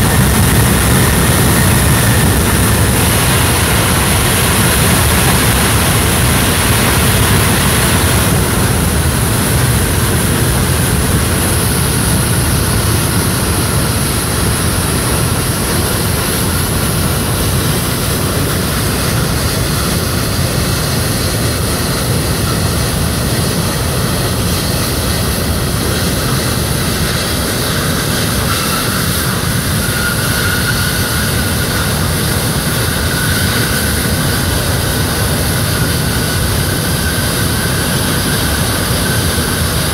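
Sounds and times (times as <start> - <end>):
jet engines roaring: 0.0 - 39.9
thin engine whine: 0.0 - 39.9.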